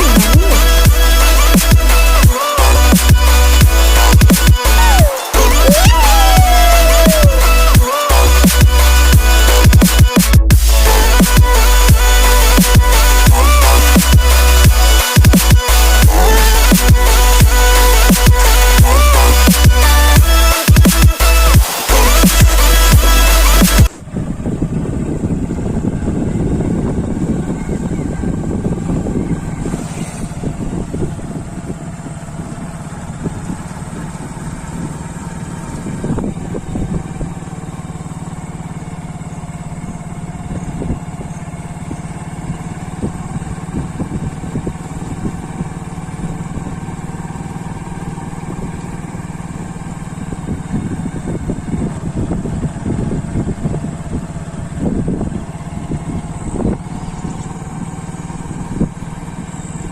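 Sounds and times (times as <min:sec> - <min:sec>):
motorcycle engine humming: 0:00.0 - 0:59.9.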